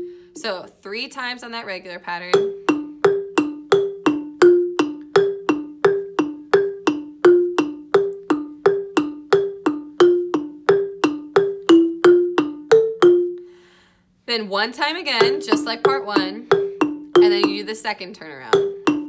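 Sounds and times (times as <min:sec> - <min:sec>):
wooden xylophone struck with mallets: 0:00.0 - 0:00.2, 0:02.3 - 0:13.6, 0:15.0 - 0:19.0.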